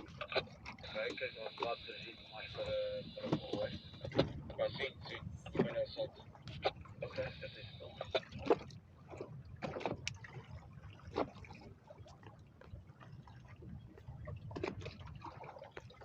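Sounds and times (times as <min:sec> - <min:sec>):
water splashing against boat hull: 0:00.0 - 0:16.0.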